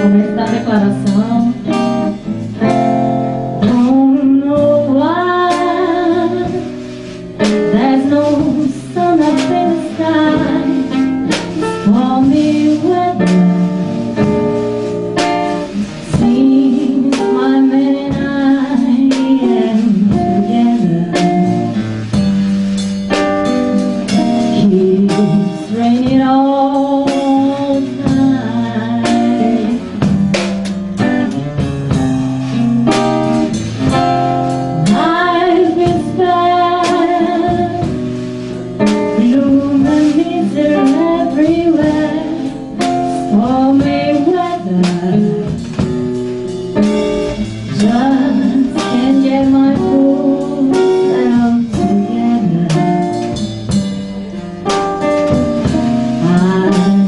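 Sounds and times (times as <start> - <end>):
woman singing a ballad: 0.0 - 14.5, 15.2 - 21.8, 23.1 - 30.2, 32.8 - 45.9, 46.8 - 53.9, 54.6 - 57.0
plucked acoustic guitar: 0.0 - 57.0.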